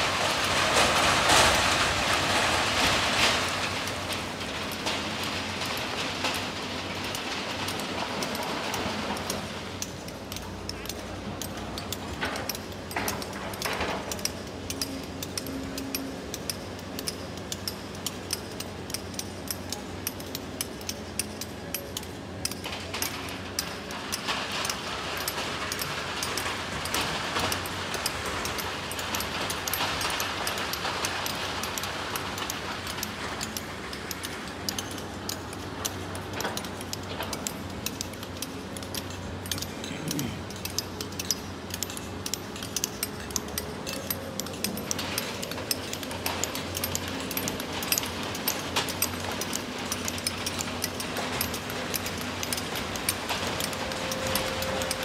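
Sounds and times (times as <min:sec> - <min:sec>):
diesel engines humming: 0:00.0 - 0:55.0
rocks and gravel clattering: 0:00.0 - 0:55.0.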